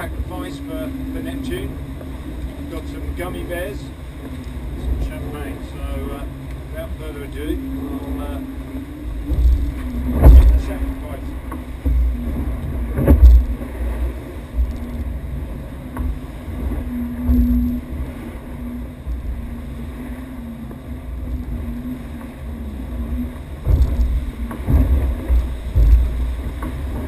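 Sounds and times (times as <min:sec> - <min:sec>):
steady low hum: 0:00.0 - 0:27.0
water rushing along hull: 0:00.0 - 0:27.0
wind buffeting camera: 0:00.0 - 0:27.0.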